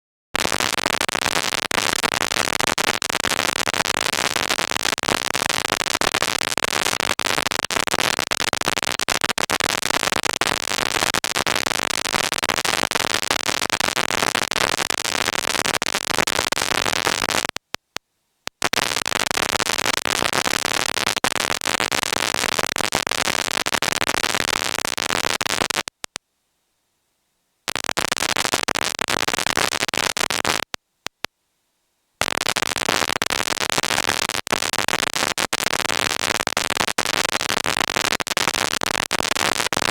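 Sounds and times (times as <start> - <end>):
dense crackling static: 0.3 - 39.9.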